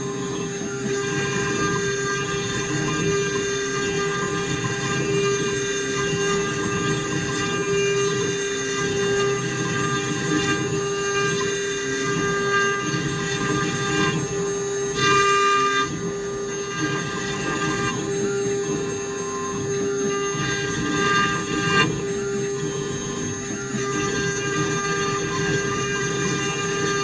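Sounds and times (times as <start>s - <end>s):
end mill cutting wood: 0.0s - 27.0s
router spindle whine: 0.0s - 27.0s.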